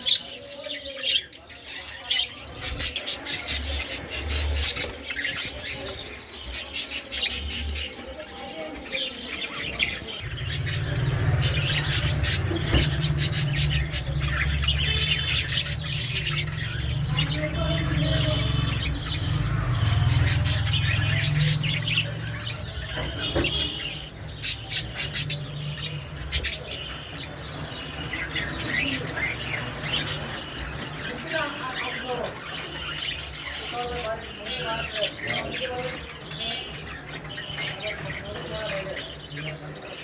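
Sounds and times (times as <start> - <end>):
budgerigars chirping and squawking: 0.0 - 40.0.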